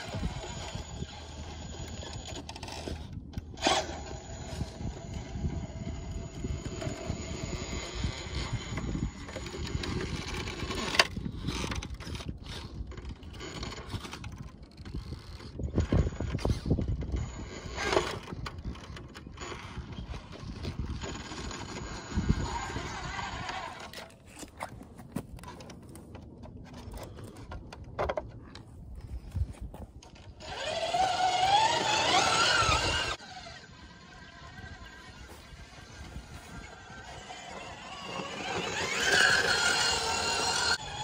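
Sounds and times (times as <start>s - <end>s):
toy truck drivetrain whirring: 0.0s - 28.2s, 30.0s - 41.0s
tyres scrabbling on rock: 5.9s - 41.0s.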